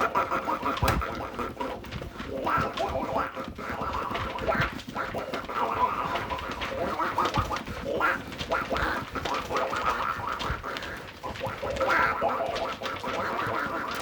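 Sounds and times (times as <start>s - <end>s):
duck-like quacking calls: 0.0s - 14.0s.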